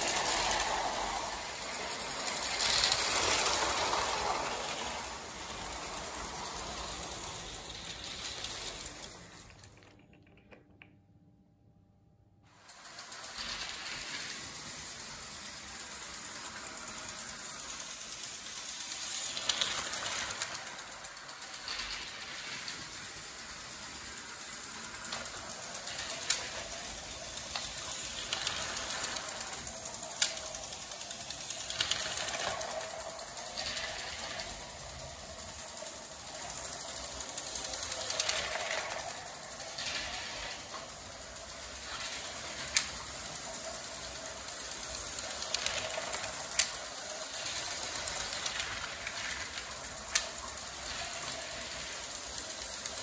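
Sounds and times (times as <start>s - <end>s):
model train motors rattling and whirring: 0.0s - 10.6s, 12.5s - 53.0s.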